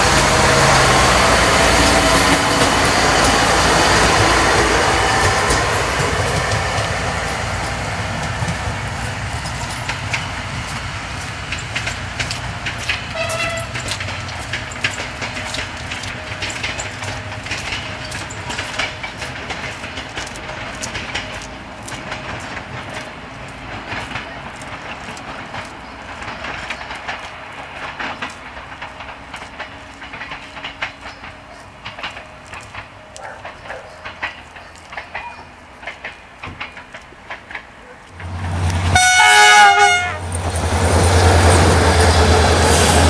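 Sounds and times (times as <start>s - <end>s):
train wheels clicking over rail joints: 0.0s - 43.0s.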